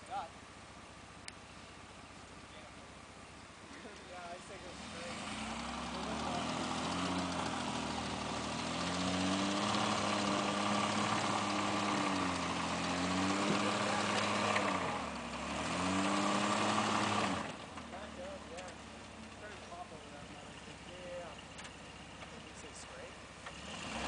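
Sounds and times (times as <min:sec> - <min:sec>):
steady drive noise: 0:00.0 - 0:24.0
truck engine revving under load: 0:03.8 - 0:24.0.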